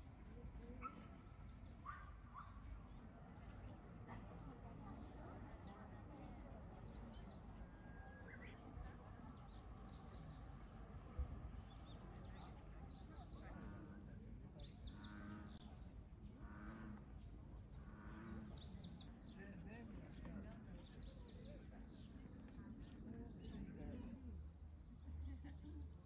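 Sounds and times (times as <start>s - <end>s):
faint distant voices: 0.0s - 26.0s.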